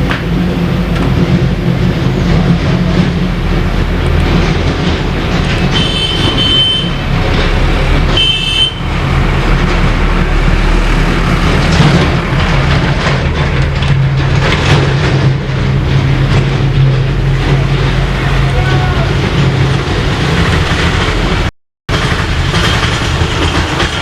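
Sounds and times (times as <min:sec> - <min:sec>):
vehicle rumble: 0:00.0 - 0:24.0.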